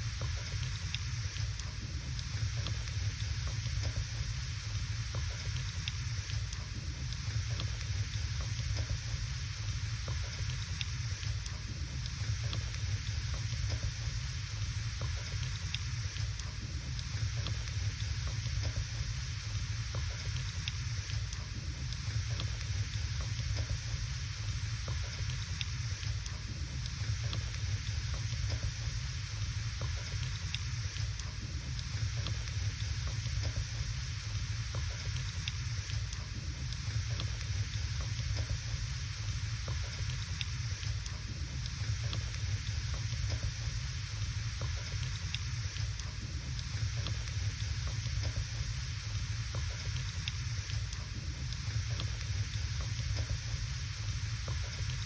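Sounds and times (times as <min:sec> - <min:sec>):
fire crackles and pops: 0:00.0 - 0:55.0
firewood burning in fireplace: 0:00.0 - 0:55.0.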